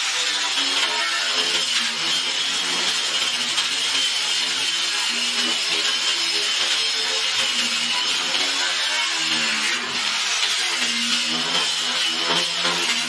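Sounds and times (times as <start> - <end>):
angle grinder grinding metal: 0.0 - 13.0.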